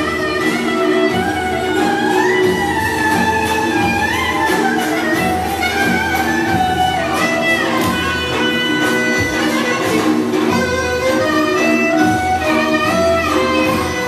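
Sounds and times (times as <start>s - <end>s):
folk dance music over loudspeakers: 0.0s - 14.0s.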